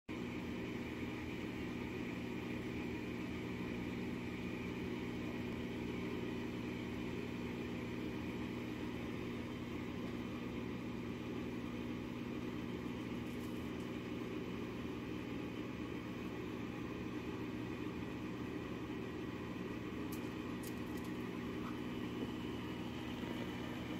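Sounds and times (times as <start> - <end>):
steady mechanical hum: 0.1 - 23.9.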